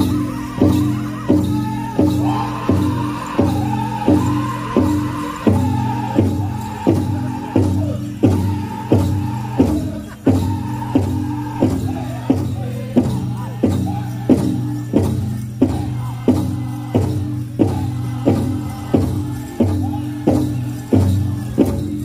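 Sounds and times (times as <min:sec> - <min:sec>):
men singing in unison: 0:00.0 - 0:21.8.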